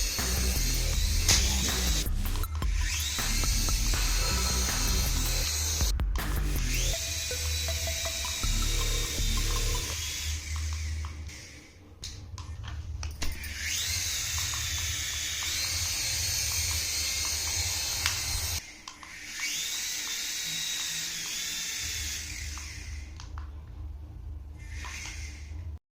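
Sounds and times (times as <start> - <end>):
small electric motor whirring: 0.0 - 12.3, 13.1 - 23.5, 24.6 - 25.8.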